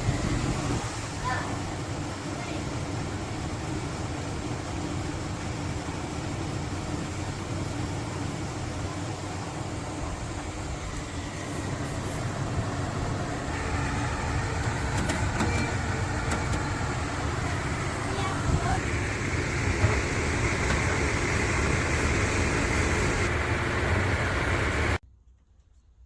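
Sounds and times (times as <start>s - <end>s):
air conditioner fan humming: 0.0s - 25.0s.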